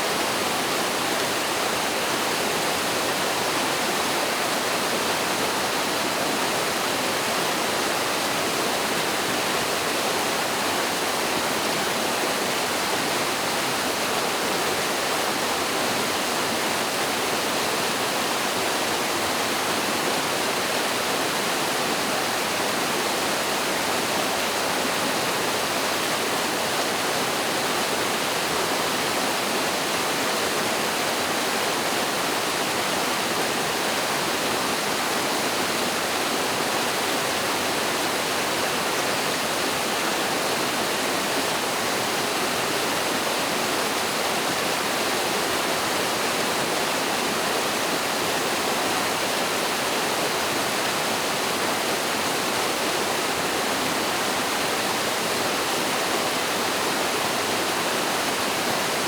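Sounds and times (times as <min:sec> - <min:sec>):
stream pouring over waterfall: 0:00.0 - 0:59.0.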